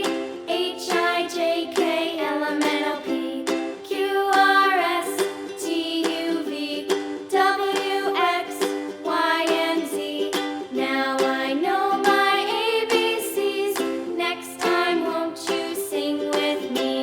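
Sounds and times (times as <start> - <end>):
strummed plucked strings: 0.0 - 17.0.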